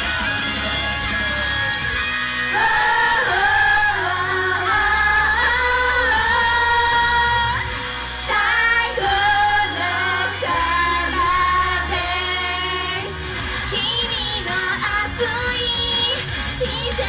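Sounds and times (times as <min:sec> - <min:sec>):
pop music with heavy bass: 0:00.0 - 0:17.0.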